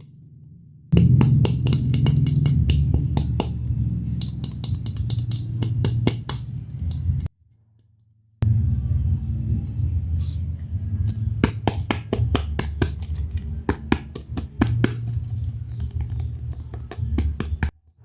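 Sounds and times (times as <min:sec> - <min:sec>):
low handling rumble: 0:00.1 - 0:07.3, 0:08.4 - 0:17.7.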